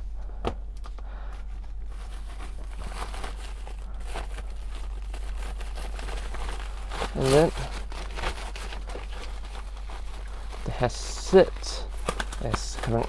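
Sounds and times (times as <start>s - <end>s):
packaging crinkling and rustling: 0.8s - 13.0s.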